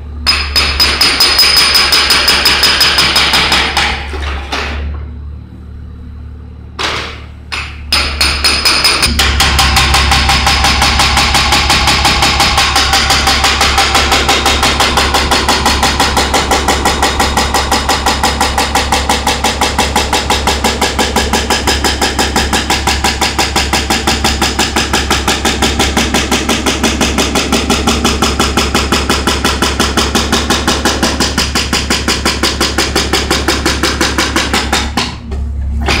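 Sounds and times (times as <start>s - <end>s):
hydraulic breaker pounding concrete: 0.0s - 4.9s, 6.8s - 36.0s
diesel engine drone: 3.4s - 8.2s, 8.9s - 36.0s.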